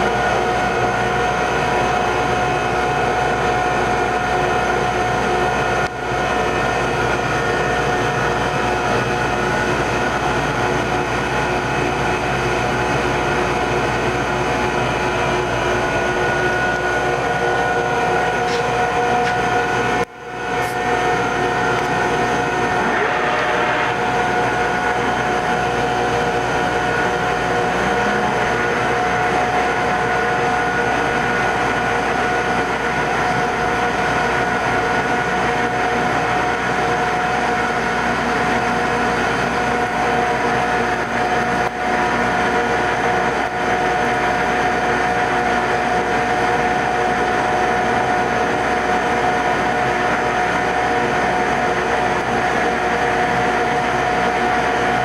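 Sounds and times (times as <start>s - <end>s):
machine tool whining: 0.0s - 55.0s.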